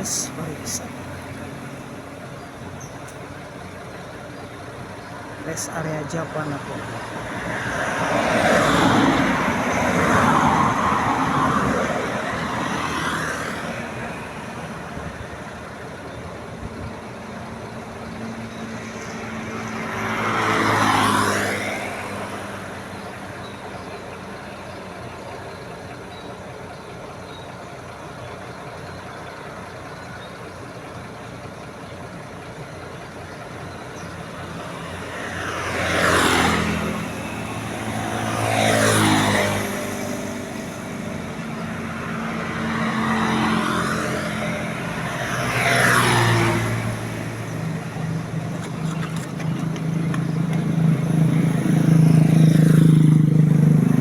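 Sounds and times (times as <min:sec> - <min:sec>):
steady engine hum: 0:00.0 - 0:54.0
vehicles driving past: 0:00.0 - 0:54.0.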